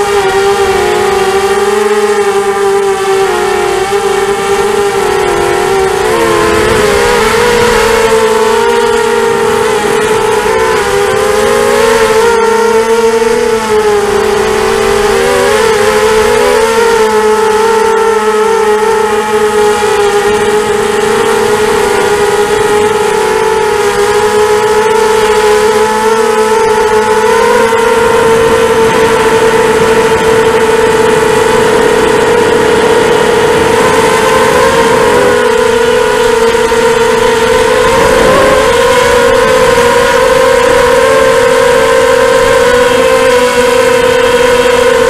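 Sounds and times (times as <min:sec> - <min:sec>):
quadcopter motors whining: 0:00.0 - 0:45.0.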